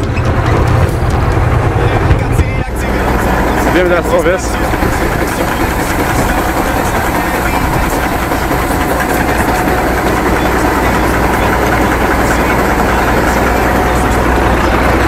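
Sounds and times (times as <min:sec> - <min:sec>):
combine harvester running: 0:00.0 - 0:15.0
grain pouring from auger: 0:02.9 - 0:15.0.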